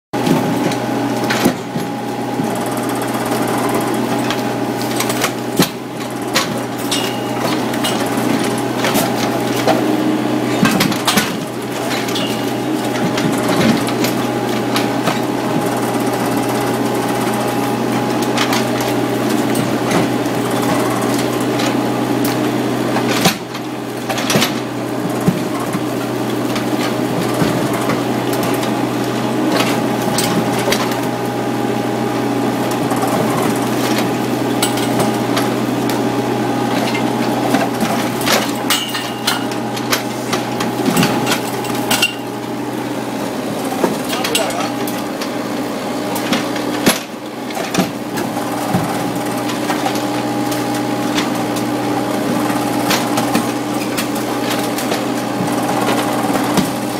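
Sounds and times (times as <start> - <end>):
excavator diesel engine running: 0.2 - 56.9.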